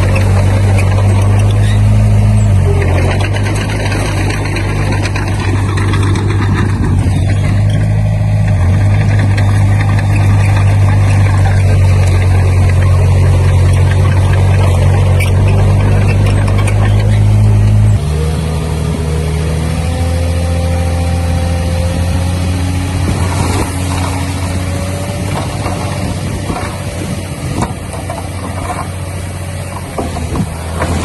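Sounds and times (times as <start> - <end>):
bulldozer diesel engine humming: 0.0 - 31.0.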